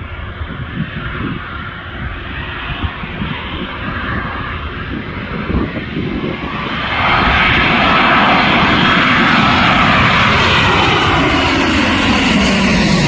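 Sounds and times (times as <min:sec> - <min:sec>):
airliner passing low overhead: 0:00.0 - 0:13.0.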